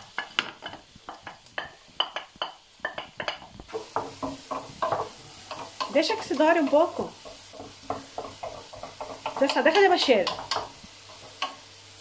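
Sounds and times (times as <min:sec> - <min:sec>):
onion frying in hot oil: 0:00.0 - 0:12.0
wooden spoon stirring: 0:00.1 - 0:11.6.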